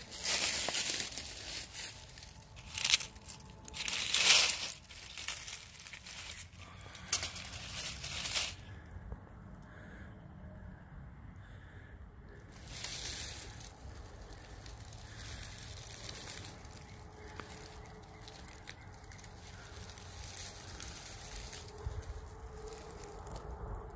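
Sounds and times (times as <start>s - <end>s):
dry leaves crunching underfoot: 0.0s - 8.8s, 12.5s - 23.9s.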